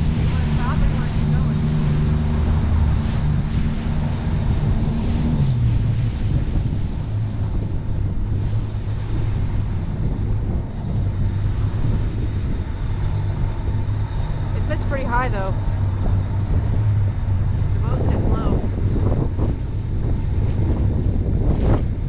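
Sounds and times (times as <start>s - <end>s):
boat engine running: 0.0s - 22.0s
wind on microphone: 0.0s - 22.0s.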